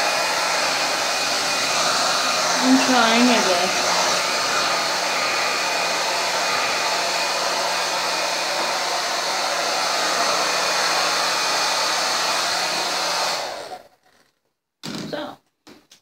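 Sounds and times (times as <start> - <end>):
hair dryer running: 0.0 - 13.9.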